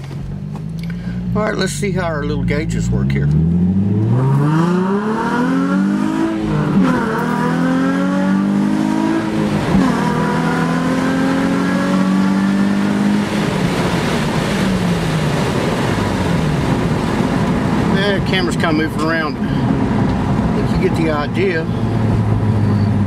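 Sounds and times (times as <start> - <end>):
car engine revving through gears: 2.4 - 23.0.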